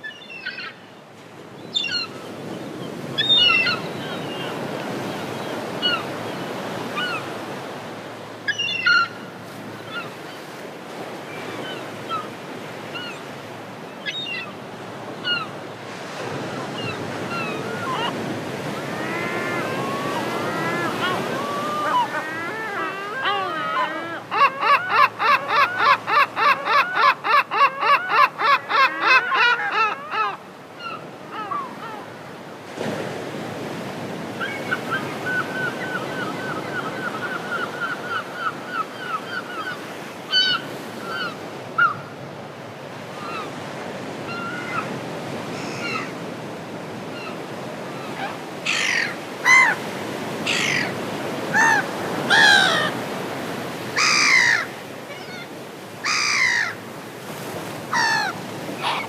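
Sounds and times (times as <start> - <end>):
gulls calling: 0.0 - 7.8, 8.4 - 32.2, 33.7 - 42.1, 46.9 - 59.0.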